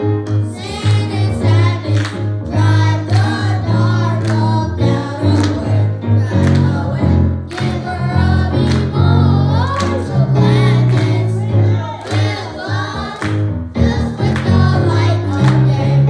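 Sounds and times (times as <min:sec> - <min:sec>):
bass line: 0:00.0 - 0:16.0
voices singing: 0:00.4 - 0:16.0.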